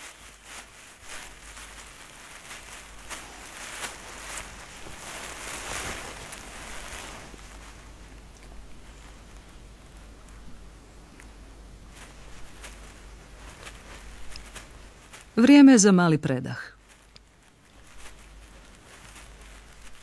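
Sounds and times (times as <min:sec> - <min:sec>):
hooves rustling dry leaves: 0:00.0 - 0:10.2, 0:11.8 - 0:15.6, 0:16.8 - 0:20.0.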